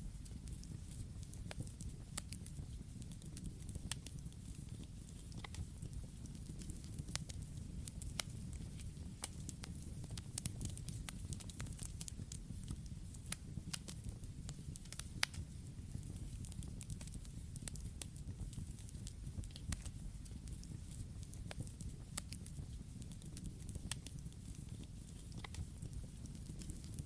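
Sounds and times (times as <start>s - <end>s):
campfire rumble: 0.0s - 27.0s
fire crackling and popping: 0.0s - 27.0s.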